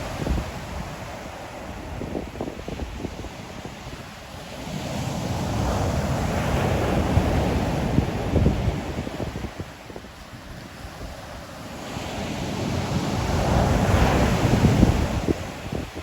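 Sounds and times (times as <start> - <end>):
ocean waves breaking: 0.0 - 16.0
wind rumbling on microphone: 0.0 - 16.0.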